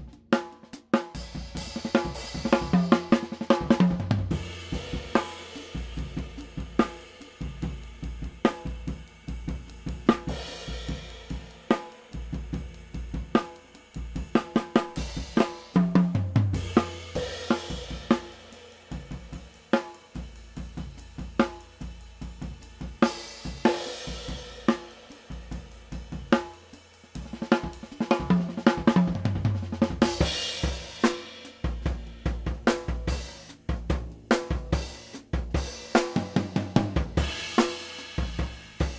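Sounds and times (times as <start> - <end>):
drum kit groove: 0.0 - 38.9.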